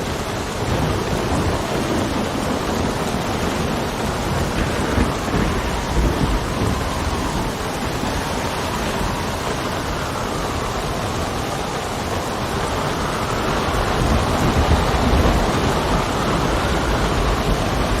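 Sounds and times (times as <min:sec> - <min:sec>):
heavy rain: 0:00.0 - 0:18.0
low rumble of thunder: 0:00.0 - 0:18.0
wind whistling: 0:00.0 - 0:18.0.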